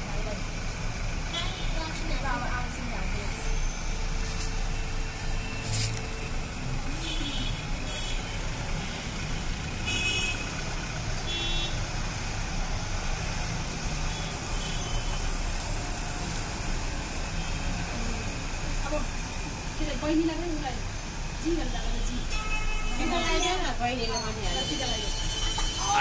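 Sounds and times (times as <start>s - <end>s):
rumbling road traffic: 0.0s - 26.0s.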